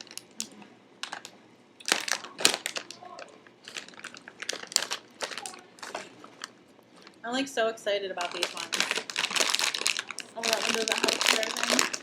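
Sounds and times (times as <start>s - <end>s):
plastic snack bag crinkling: 0.0s - 7.2s, 8.2s - 12.0s.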